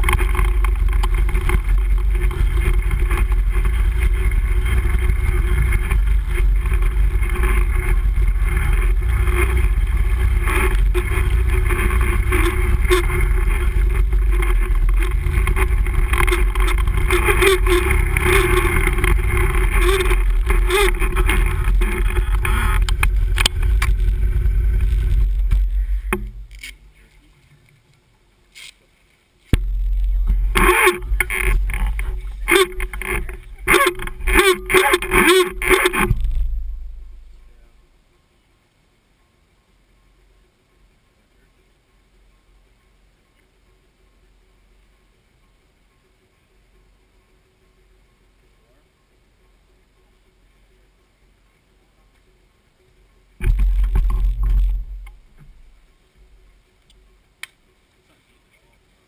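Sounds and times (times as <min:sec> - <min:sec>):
atv engine running: 0:00.0 - 0:27.3, 0:29.6 - 0:38.4, 0:41.7 - 0:57.8.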